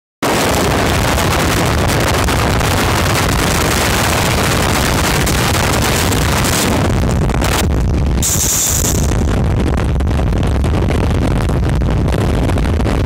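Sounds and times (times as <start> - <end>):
wind buffeting microphone: 0.2 - 13.0
train running rumble: 0.4 - 13.0.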